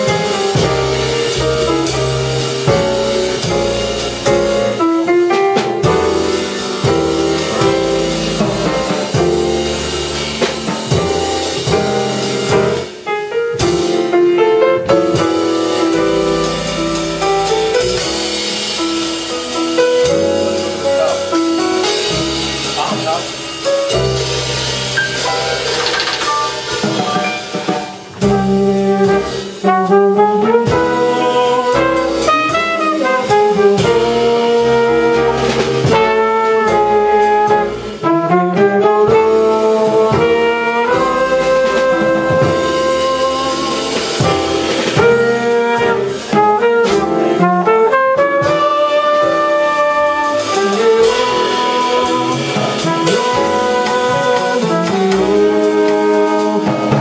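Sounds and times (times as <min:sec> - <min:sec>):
drum kit: 0:00.0 - 0:57.0
trumpet melody: 0:00.0 - 0:57.0
upright bass: 0:00.0 - 0:57.0.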